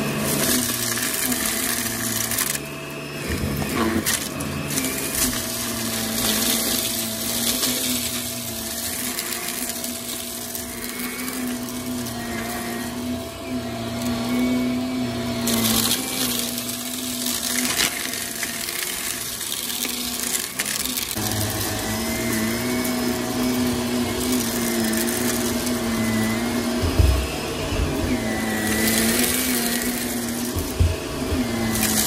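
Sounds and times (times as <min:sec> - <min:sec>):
vacuum cleaner running over carpet: 0:00.0 - 0:32.0.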